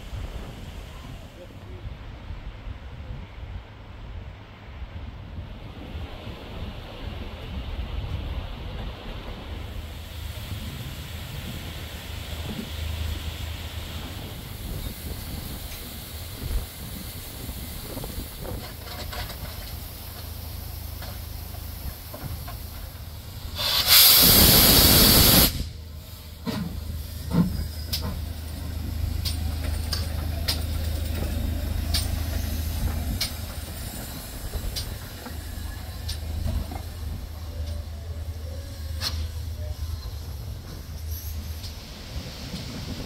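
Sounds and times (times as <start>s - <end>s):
steam locomotive hissing steam: 0.0s - 2.3s, 5.8s - 43.0s.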